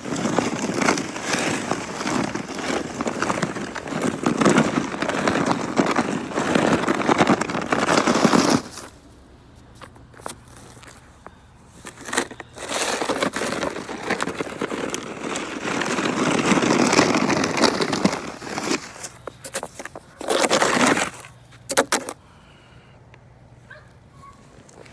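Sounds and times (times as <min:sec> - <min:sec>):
snow scraping and crunching: 0:00.0 - 0:21.6.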